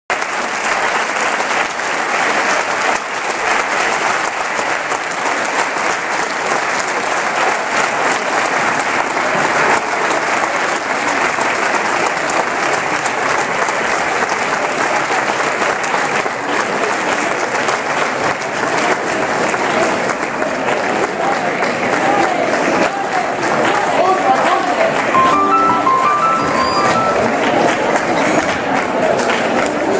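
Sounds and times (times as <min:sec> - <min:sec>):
audience applauding: 0:00.1 - 0:29.9.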